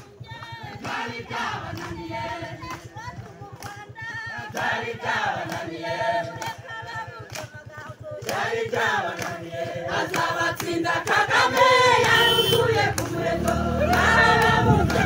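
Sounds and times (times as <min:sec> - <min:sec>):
crowd singing without instruments: 0:00.0 - 0:15.0.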